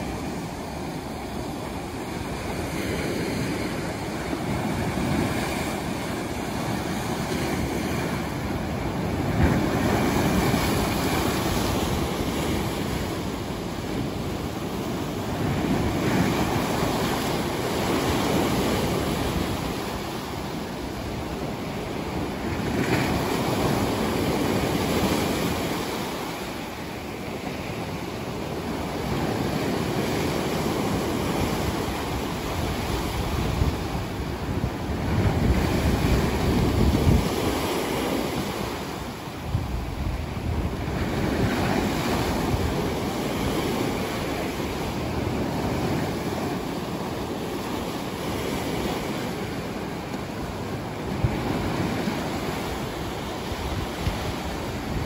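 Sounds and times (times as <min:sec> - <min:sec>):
sea waves breaking on rocks: 0:00.0 - 0:55.0
surf washing up a beach: 0:00.0 - 0:55.0.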